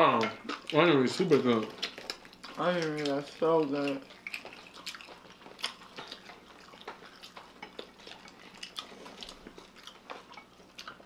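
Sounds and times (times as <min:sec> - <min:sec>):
chewing and lip-smacking: 0:00.1 - 0:11.0.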